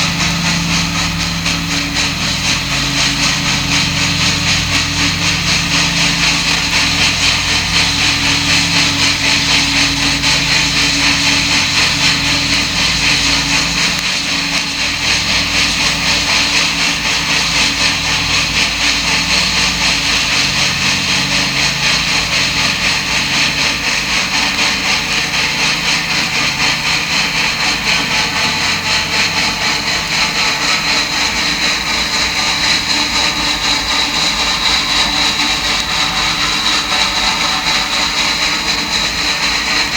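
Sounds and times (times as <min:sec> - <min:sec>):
locomotive running gear: 0:00.0 - 0:39.9
steam locomotive chuffing: 0:00.0 - 0:39.9.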